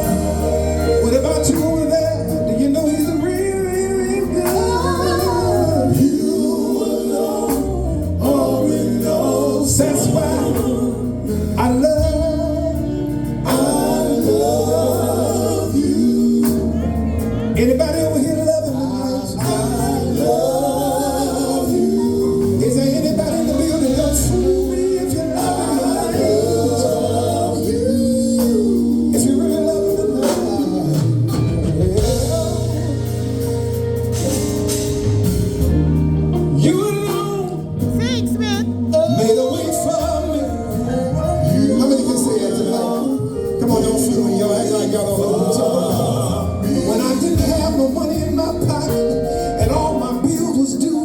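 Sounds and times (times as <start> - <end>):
gospel vocal group singing: 0.0 - 51.0.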